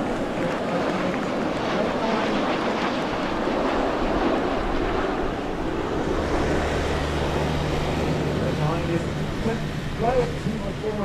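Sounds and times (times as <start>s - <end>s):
jets flying past: 0.0s - 11.0s.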